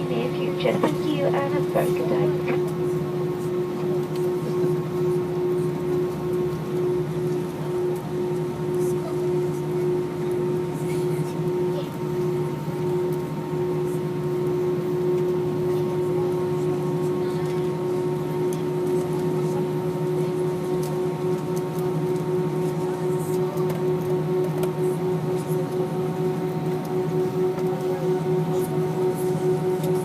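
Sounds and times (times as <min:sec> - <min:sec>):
aircraft cabin drone: 0:00.0 - 0:30.0.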